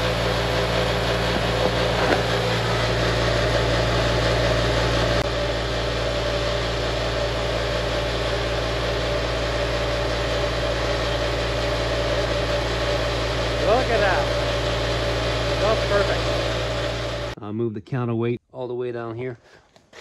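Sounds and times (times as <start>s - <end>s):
vibrating motors rattling steel deck: 0.0s - 17.4s.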